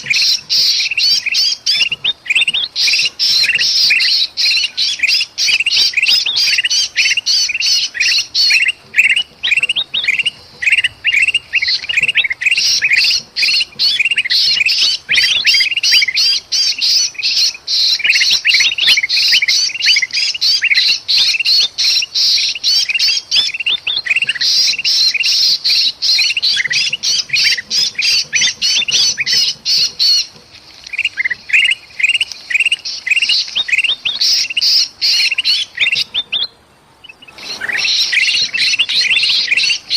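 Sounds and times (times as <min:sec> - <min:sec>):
birds squawking in distress: 0:00.0 - 0:39.9.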